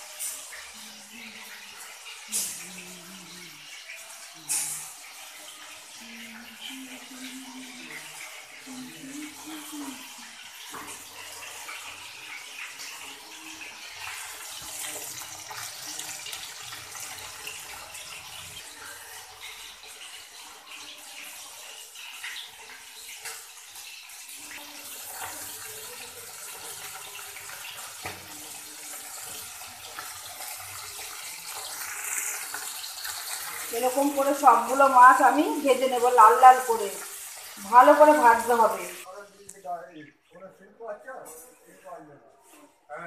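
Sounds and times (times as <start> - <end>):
fish sizzling in hot oil: 0.0 - 39.1.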